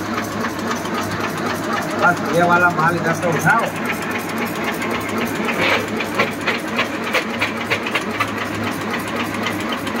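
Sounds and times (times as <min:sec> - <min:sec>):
machine motor hum: 0:00.0 - 0:10.0
rhythmic machine clacking: 0:00.0 - 0:10.0.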